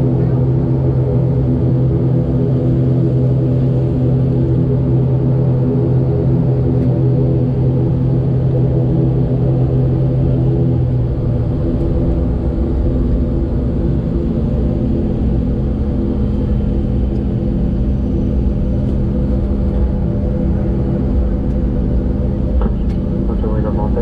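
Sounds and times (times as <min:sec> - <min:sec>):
jet engines droning: 0:00.0 - 0:24.0
strong low hum: 0:00.0 - 0:24.0.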